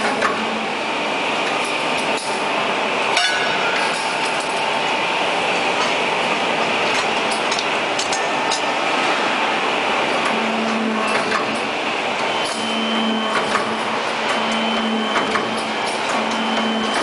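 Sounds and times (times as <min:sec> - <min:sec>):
factory din: 0:00.0 - 0:17.0.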